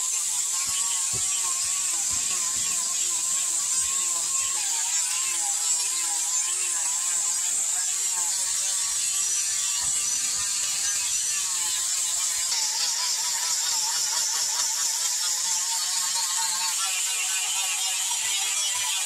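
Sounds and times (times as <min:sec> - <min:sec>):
angle grinder sanding wood: 0:00.0 - 0:19.0
high sanding hiss: 0:00.0 - 0:19.0.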